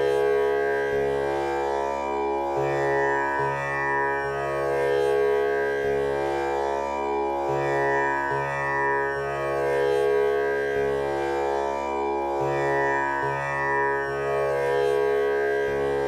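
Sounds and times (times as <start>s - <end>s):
tanpura drone: 0.0s - 16.0s.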